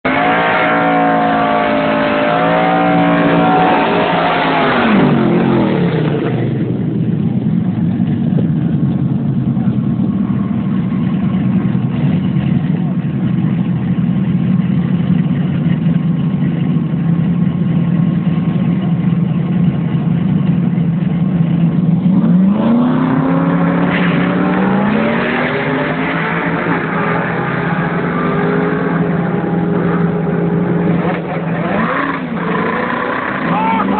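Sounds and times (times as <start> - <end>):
race car engine revving: 0.0 - 14.7, 18.2 - 33.9.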